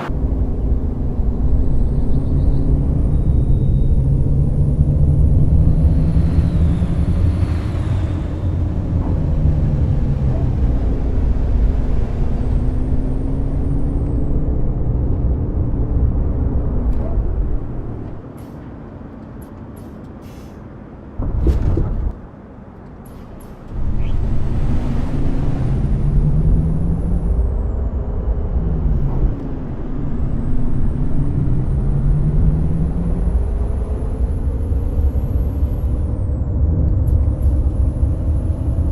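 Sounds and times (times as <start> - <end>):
diesel engine pulling through gears: 0.0 - 38.9
faint high engine whine: 0.0 - 38.9.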